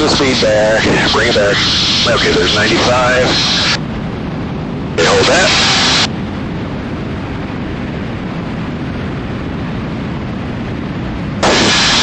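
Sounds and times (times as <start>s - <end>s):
aircraft engines and propellers: 0.0s - 12.0s
wind rushing: 0.0s - 12.0s.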